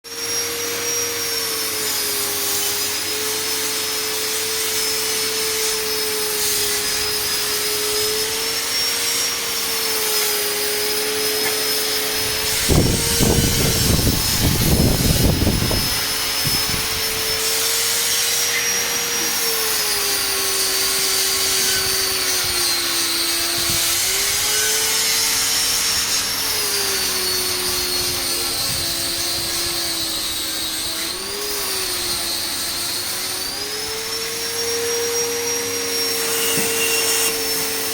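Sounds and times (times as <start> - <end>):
electric motor whining: 0.1 - 37.9.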